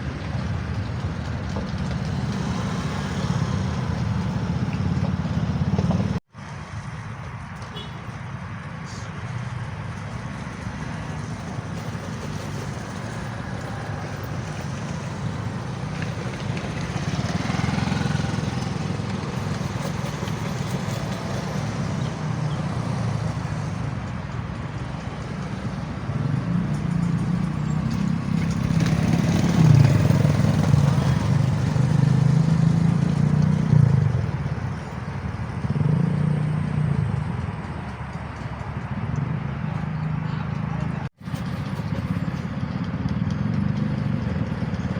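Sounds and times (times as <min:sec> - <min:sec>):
train rumbling along rails: 0:00.0 - 0:07.5, 0:09.2 - 0:44.9.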